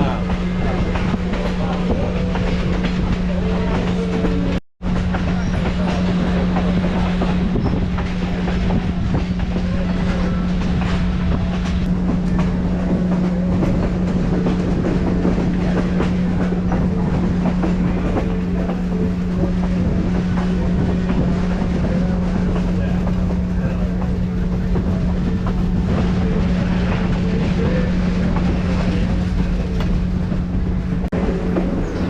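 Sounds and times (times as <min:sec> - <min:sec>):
constant low hum: 0:00.0 - 0:32.0
train wheels on rails: 0:00.0 - 0:32.0.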